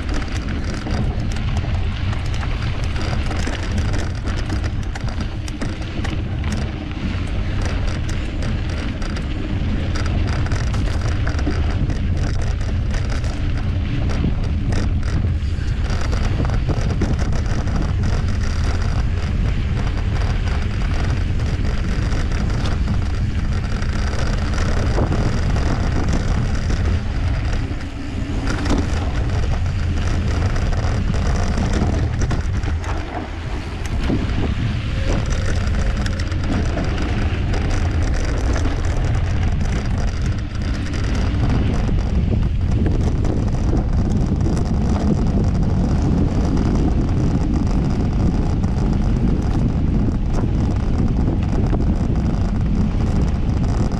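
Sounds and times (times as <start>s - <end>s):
bike rattling over bumps: 0.0s - 53.9s
tyres rolling on dirt trail: 0.0s - 53.9s
wind buffeting microphone: 0.0s - 53.9s.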